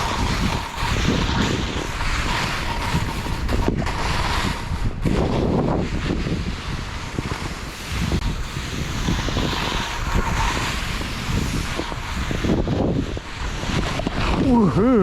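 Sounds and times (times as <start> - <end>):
skis sliding through wet snow: 0.0 - 15.0
wind buffeting microphone: 0.0 - 15.0.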